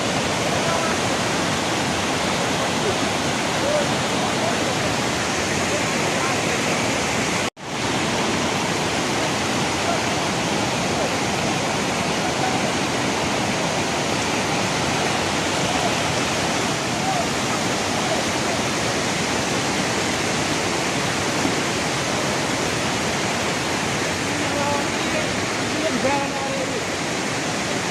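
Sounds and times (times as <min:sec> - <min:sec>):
floodwater rushing: 0:00.0 - 0:27.9.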